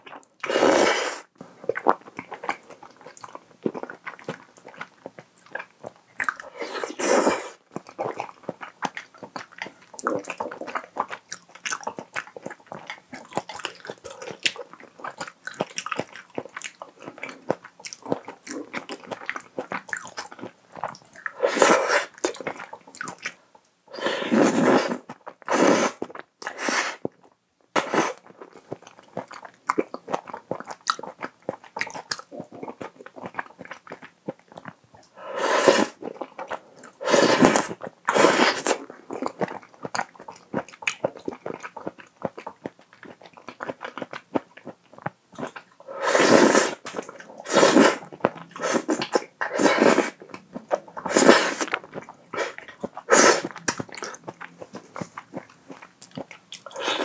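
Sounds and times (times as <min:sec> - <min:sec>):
wet chewing and slurping: 0:00.0 - 0:57.0.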